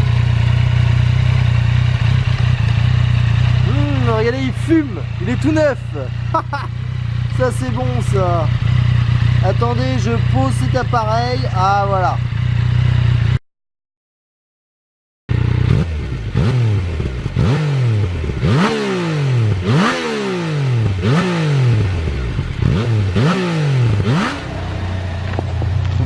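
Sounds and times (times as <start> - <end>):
motorcycle engine revving: 0.0 - 13.4, 15.3 - 26.0.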